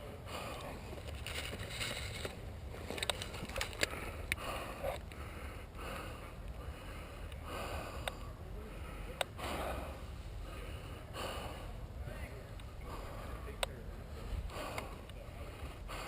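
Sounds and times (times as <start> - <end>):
person breathing: 0.0 - 2.1, 3.4 - 16.0.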